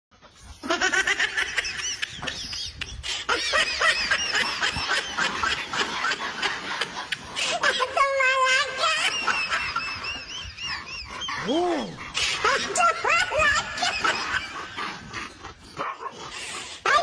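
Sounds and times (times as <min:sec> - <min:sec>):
animals squealing and chattering: 0:00.2 - 0:17.0.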